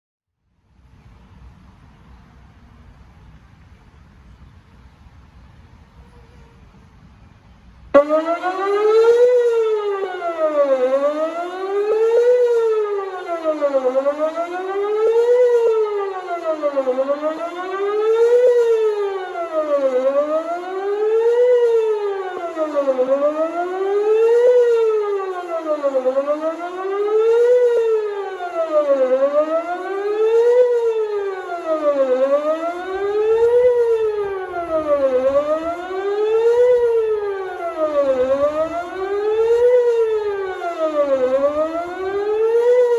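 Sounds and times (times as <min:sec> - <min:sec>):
tornado warning siren wailing: 0:07.9 - 0:42.9.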